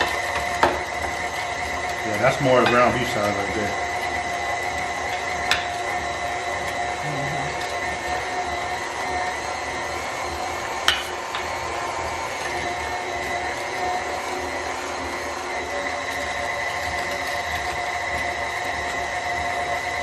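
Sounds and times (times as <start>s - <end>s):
stand mixer motor running: 0.0s - 20.0s.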